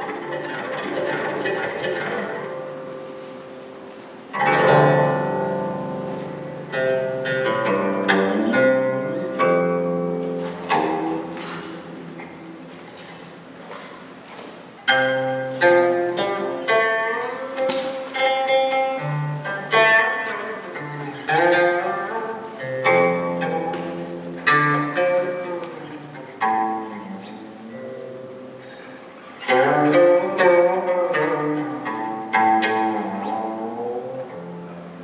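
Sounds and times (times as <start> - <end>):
plucked zither notes: 0.0 - 35.0.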